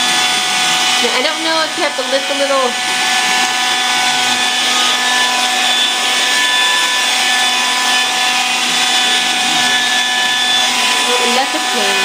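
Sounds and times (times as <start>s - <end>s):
small vacuum motor whining: 0.0s - 12.0s.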